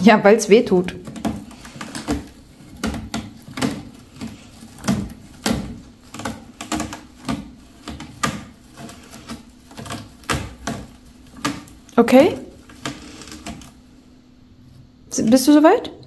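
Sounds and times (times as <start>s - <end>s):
cat claws scratching post: 0.6s - 13.8s.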